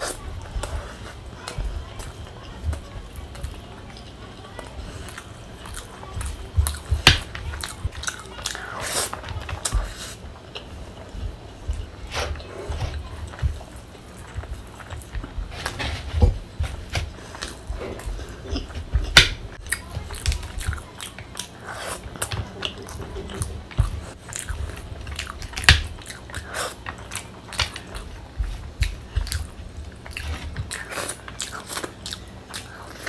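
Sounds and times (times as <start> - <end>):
chewing and mouth smacking: 0.0 - 15.4, 17.2 - 33.0.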